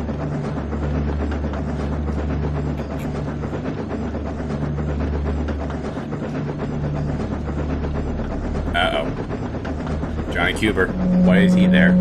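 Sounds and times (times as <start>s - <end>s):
rail rattle: 0.0s - 12.0s
train engine drone: 0.0s - 12.0s.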